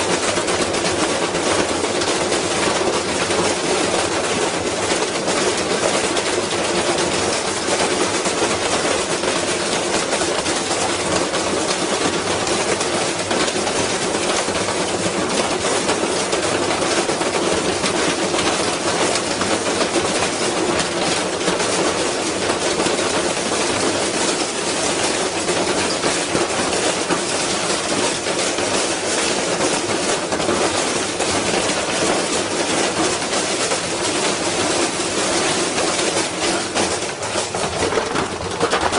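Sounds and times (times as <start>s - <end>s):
unbalanced washing machine clattering: 0.0s - 38.9s.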